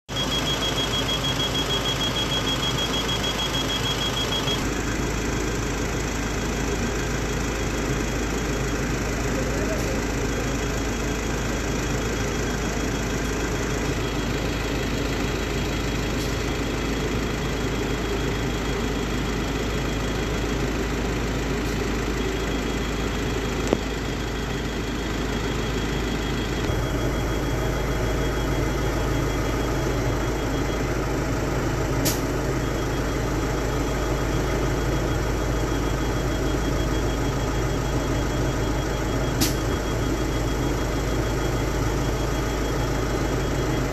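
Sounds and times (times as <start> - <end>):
bus engine idling: 0.1 - 43.9.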